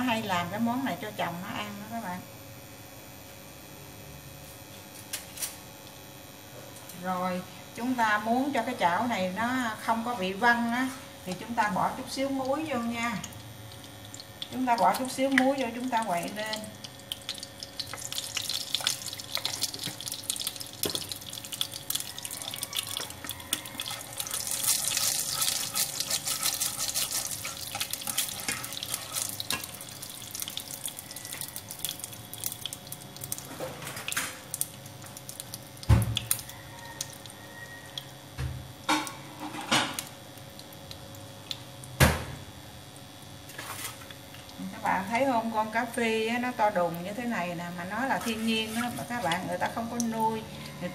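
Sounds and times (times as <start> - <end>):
oil crackling in a frying pan: 6.9 - 50.9.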